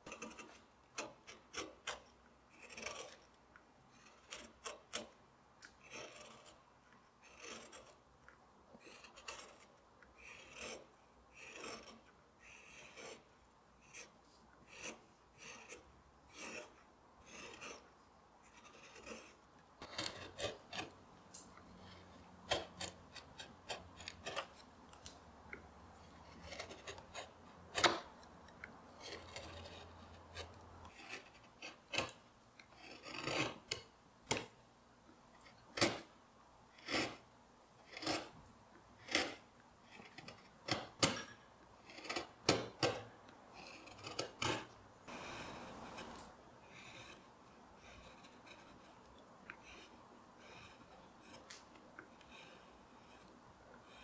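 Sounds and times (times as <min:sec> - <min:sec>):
carving gouge scraping wood: 0:00.0 - 0:34.6, 0:35.4 - 0:36.1, 0:36.7 - 0:38.4, 0:39.0 - 0:54.0.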